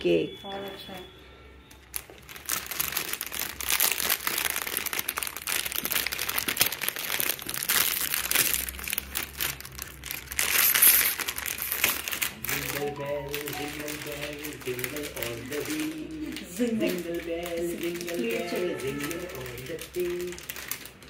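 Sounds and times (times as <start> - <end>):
plastic wrap crinkling: 1.7 - 21.0.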